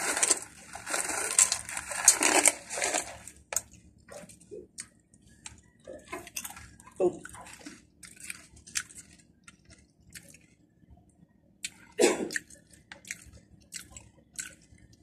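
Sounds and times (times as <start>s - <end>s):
crunchy chips being chewed: 0.0s - 10.6s, 11.6s - 15.0s.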